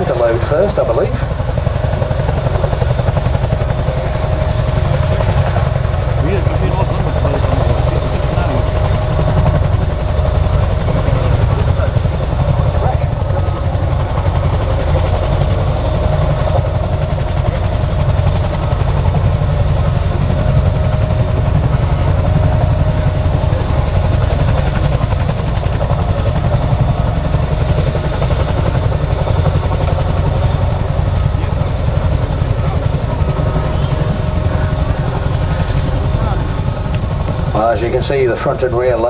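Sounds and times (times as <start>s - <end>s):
helicopter rotor beat: 0.0s - 39.0s
turbine whine: 0.0s - 39.0s.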